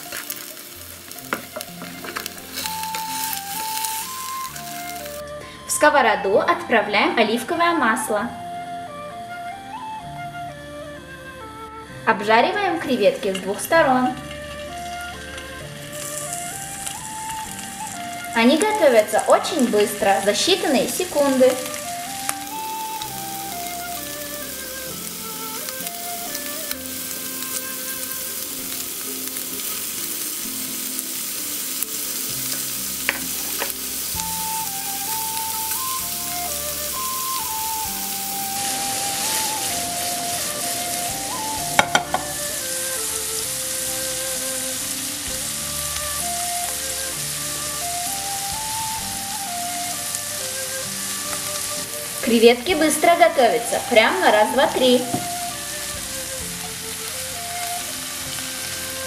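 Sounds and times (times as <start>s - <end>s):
shrimp sizzling in a pan: 0.0s - 10.6s, 11.7s - 59.0s
soft background music: 0.0s - 59.0s.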